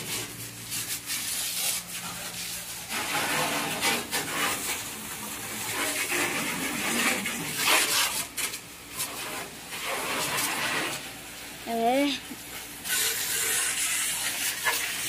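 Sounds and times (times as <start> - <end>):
hose water spraying against truck: 0.0 - 15.0.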